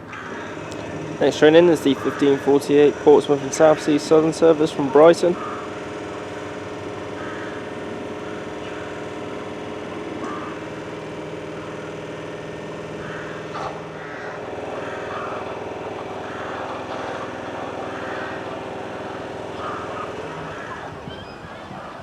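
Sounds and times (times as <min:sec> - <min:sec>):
electric train humming: 0:00.0 - 0:22.0.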